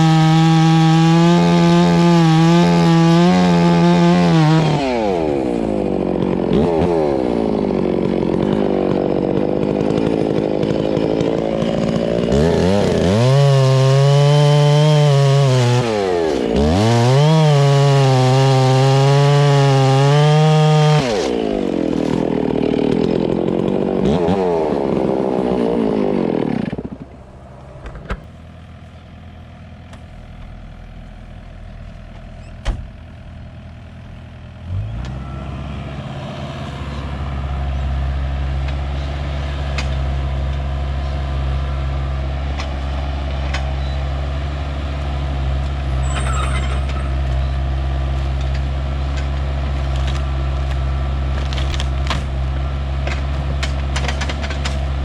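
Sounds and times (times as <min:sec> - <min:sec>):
chainsaw revving: 0:00.0 - 0:27.4, 0:36.0 - 0:55.0.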